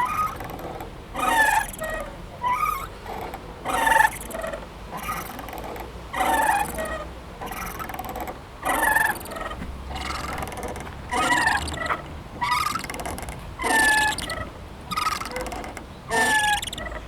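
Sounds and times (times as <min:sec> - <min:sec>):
playground swing squeaking: 0:00.0 - 0:17.0.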